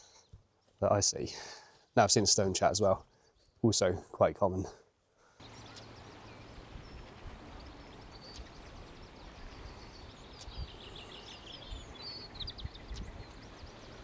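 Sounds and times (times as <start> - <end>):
songbirds chirping: 0.0 - 14.0
steady outdoor hiss: 0.8 - 14.0.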